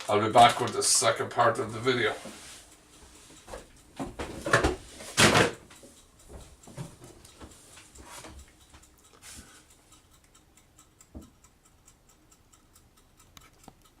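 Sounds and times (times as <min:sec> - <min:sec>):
faint regular ticking: 0:00.0 - 0:05.0, 0:05.6 - 0:14.0.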